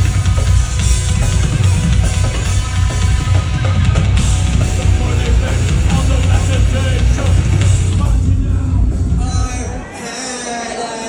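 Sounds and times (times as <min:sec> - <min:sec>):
drum kit with heavy bass drum: 0:00.0 - 0:10.0
distorted guitars: 0:00.0 - 0:10.8.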